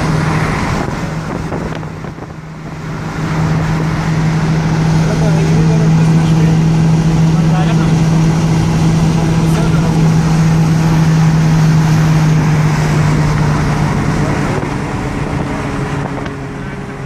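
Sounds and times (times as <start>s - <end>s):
tyre and wind rush: 0.0s - 16.8s
car engine hum: 0.0s - 17.0s.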